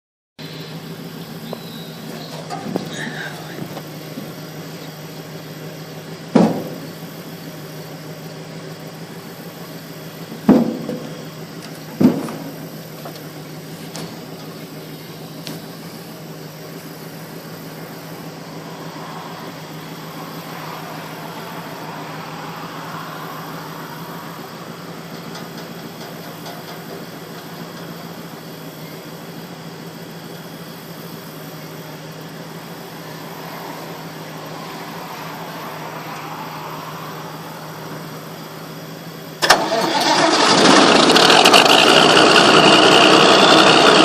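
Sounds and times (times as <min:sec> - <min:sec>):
combine engine idling: 0:00.4 - 0:44.0.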